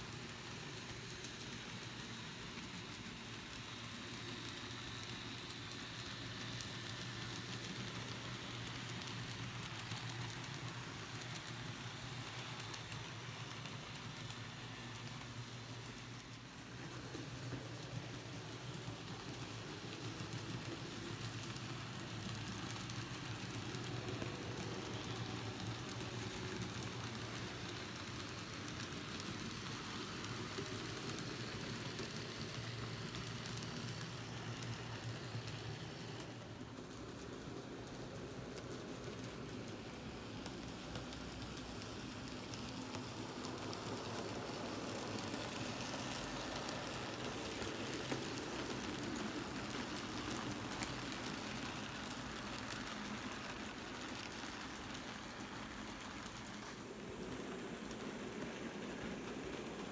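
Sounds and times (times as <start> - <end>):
model train motor whirring: 0.0 - 37.2, 38.6 - 59.9.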